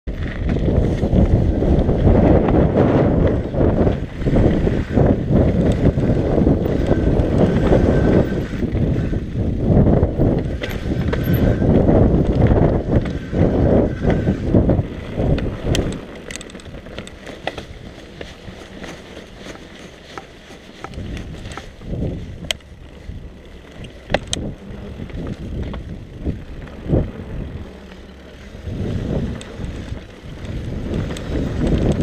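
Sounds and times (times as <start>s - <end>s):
bike clicks and rattles: 0.1s - 32.0s
bike tyres rumbling over rocks: 0.1s - 32.0s
wind buffeting microphone: 0.1s - 32.0s.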